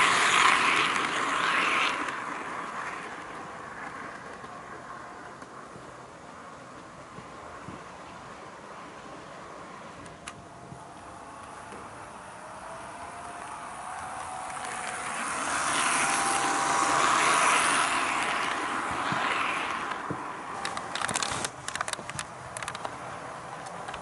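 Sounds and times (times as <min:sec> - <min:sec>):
model wheels clicking on track joints: 0:00.0 - 0:05.7, 0:09.9 - 0:24.0
model railcar motor whine: 0:00.0 - 0:24.0.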